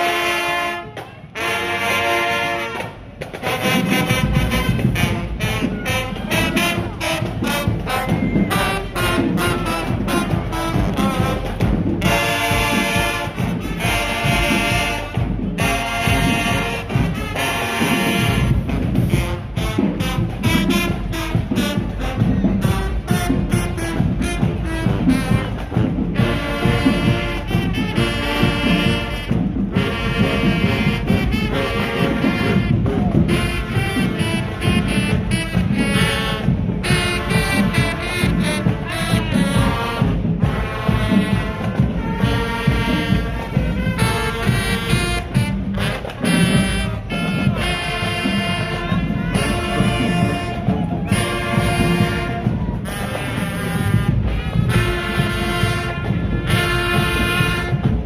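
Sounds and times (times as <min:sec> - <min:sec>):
brass sustained chords: 0:00.0 - 0:08.1, 0:08.7 - 0:50.6, 0:51.2 - 0:58.0
marching band playing: 0:00.0 - 0:58.0.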